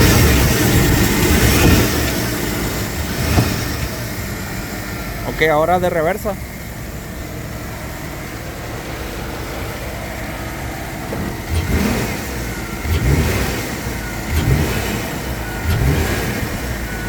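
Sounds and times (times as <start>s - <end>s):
engine idling and revving: 0.0s - 17.0s.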